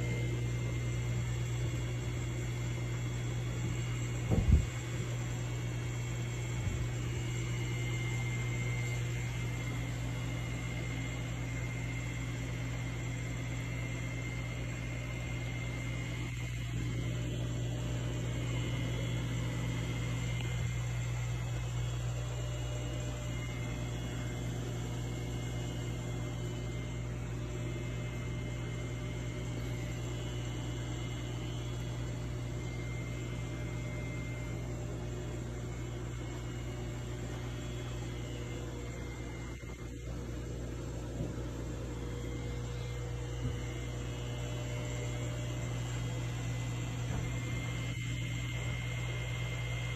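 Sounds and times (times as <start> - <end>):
low electrical hum: 0.0 - 49.9.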